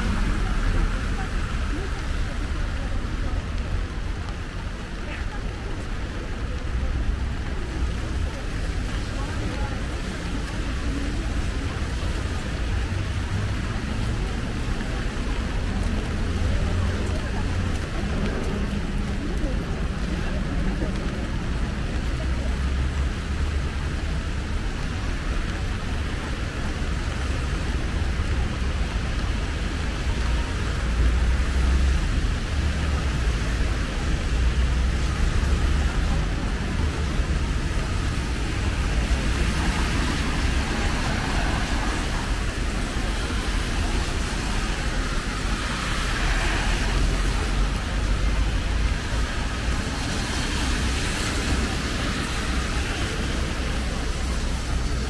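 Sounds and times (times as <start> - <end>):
heavy rain on an umbrella: 0.0 - 55.0.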